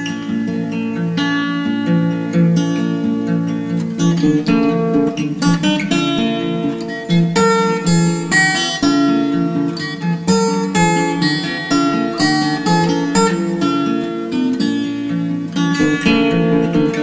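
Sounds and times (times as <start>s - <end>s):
acoustic guitar plucked tune: 0.0s - 17.0s.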